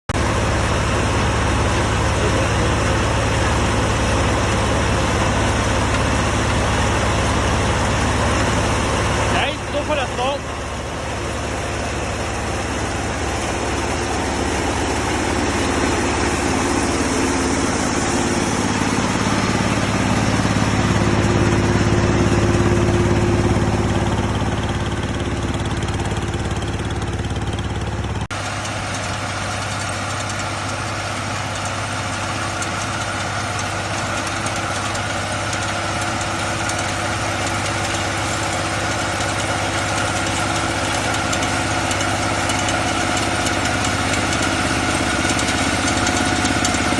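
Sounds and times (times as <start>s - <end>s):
diesel engine running: 0.1s - 46.9s.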